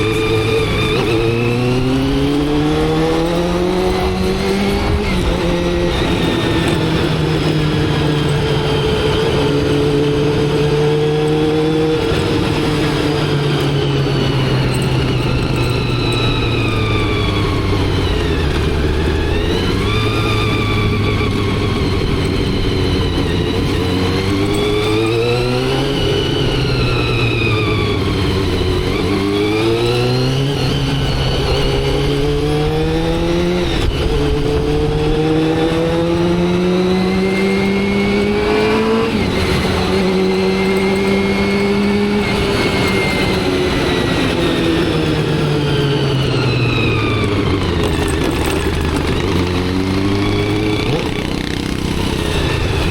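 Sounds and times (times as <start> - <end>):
motorcycle engine shifting gears: 0.0 - 52.9.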